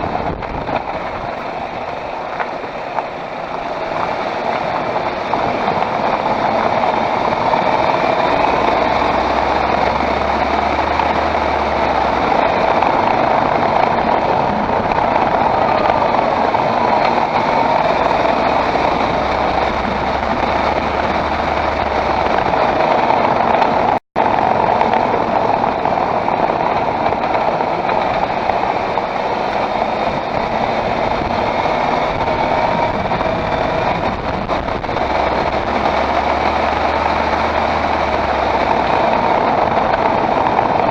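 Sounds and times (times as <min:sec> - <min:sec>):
car running noise: 0:00.0 - 0:40.9.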